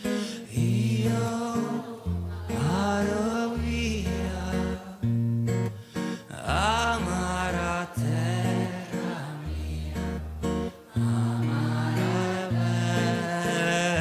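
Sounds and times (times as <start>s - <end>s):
man singing: 0.0s - 5.0s, 6.2s - 10.2s, 11.0s - 14.0s
acoustic guitar: 0.0s - 14.0s.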